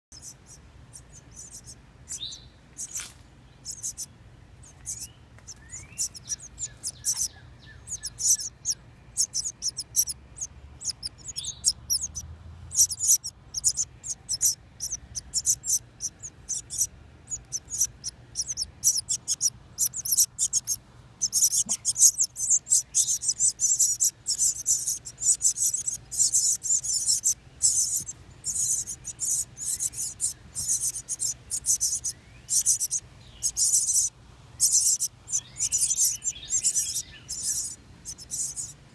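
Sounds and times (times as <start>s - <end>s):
baby birds calling: 0.1s - 38.9s.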